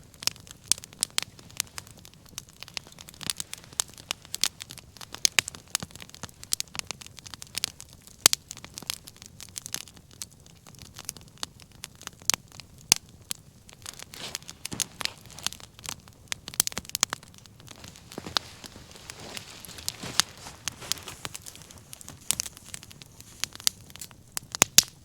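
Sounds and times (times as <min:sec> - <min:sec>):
hiss of burning: 0:00.0 - 0:09.8, 0:11.4 - 0:25.0
wood fire crackling: 0:00.0 - 0:25.0.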